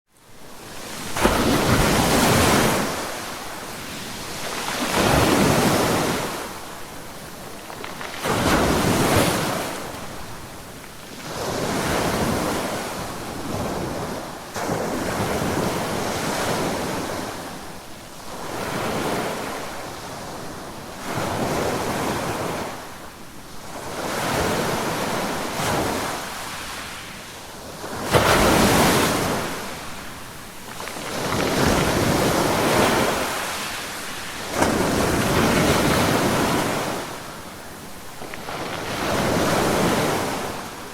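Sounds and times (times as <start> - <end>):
ocean waves breaking on beach: 0.2 - 40.9.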